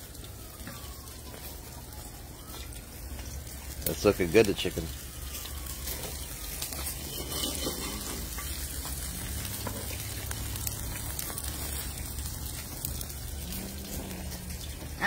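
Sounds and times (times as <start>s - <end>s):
small pops from fire: 0.0s - 15.0s
wood fire crackling and hissing: 0.0s - 15.0s.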